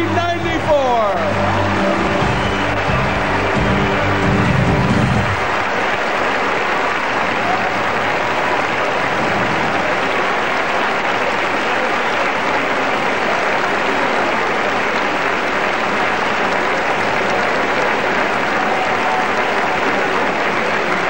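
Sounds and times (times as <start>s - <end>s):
large audience applauding: 0.0s - 21.0s.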